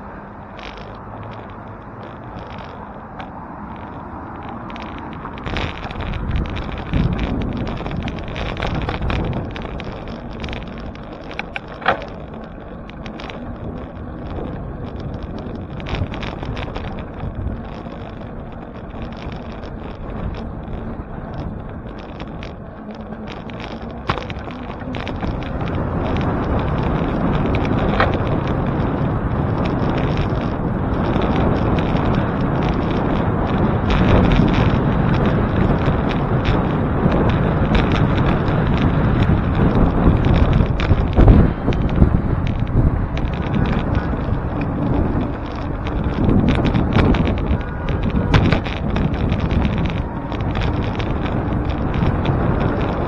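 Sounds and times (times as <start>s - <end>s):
tyre road rumble: 0.0s - 53.0s
wind on microphone: 0.0s - 53.0s.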